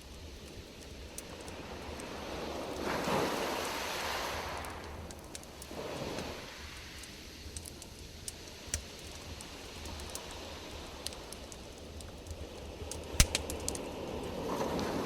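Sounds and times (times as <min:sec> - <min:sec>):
campfire wood popping: 0:00.0 - 0:14.8
low fire rumble: 0:00.0 - 0:15.0.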